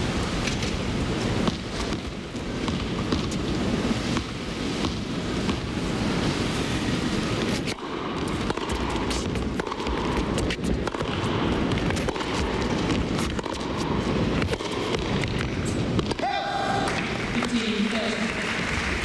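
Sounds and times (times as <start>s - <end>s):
indoor arena background noise: 0.0s - 19.0s
racket hitting tennis ball: 0.4s - 17.6s.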